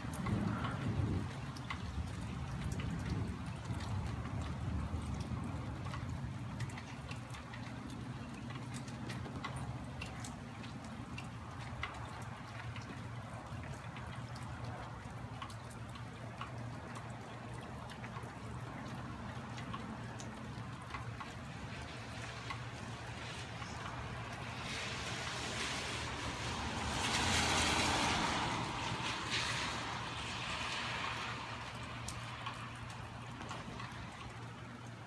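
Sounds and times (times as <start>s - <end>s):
rain falling: 0.0s - 35.0s.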